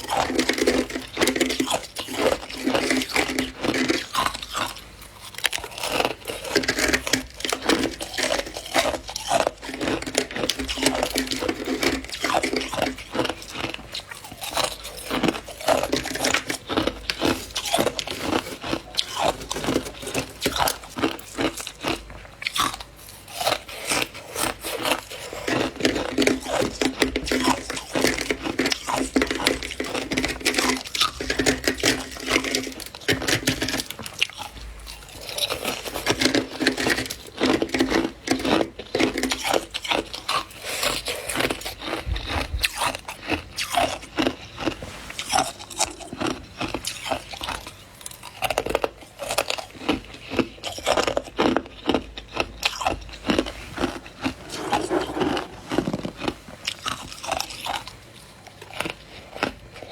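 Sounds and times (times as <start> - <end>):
frost being chewed: 0.0 - 59.9.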